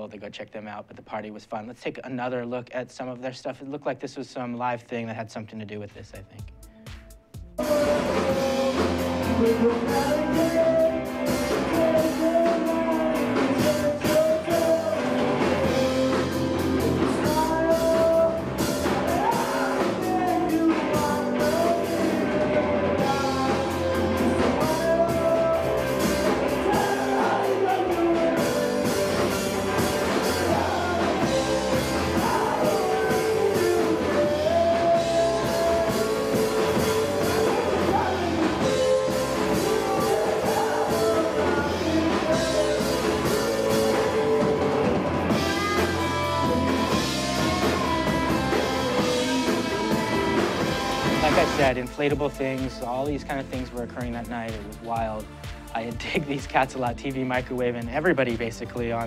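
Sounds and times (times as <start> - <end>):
punk rock band playing live: 6.4 - 55.8
person singing: 7.5 - 59.0.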